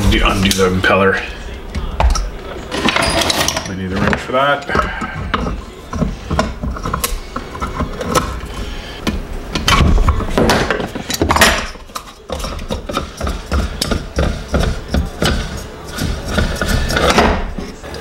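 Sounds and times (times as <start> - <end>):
tools and pump parts clattering: 2.0 - 8.7, 9.5 - 18.0.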